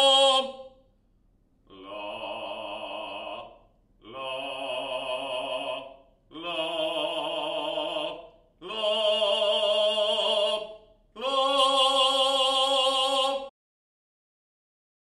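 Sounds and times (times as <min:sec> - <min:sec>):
man singing sustained notes: 0:00.0 - 0:00.8, 0:01.7 - 0:13.5.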